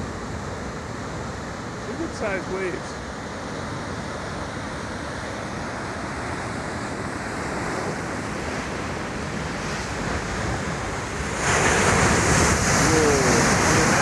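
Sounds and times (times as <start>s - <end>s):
surf waves breaking: 0.0s - 14.0s.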